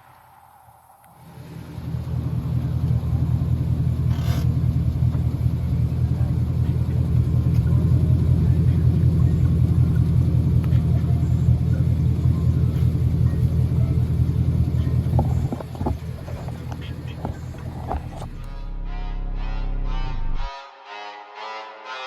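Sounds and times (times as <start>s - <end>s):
car engine rumbling: 0.0s - 20.4s.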